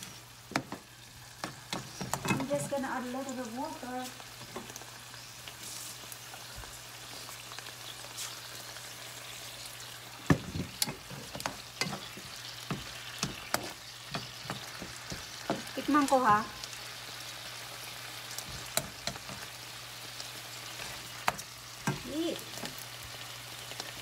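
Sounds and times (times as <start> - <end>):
onions sizzling in a frying pan: 0.0 - 24.0.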